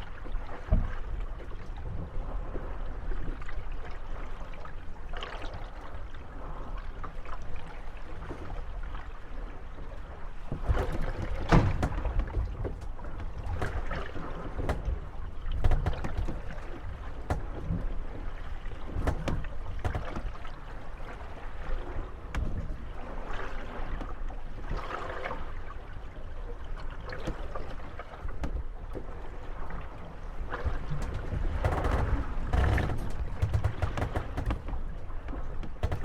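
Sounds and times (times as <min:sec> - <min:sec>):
wooden boats creaking and knocking: 0:00.0 - 0:05.9, 0:07.0 - 0:36.0
water lapping: 0:00.0 - 0:36.0.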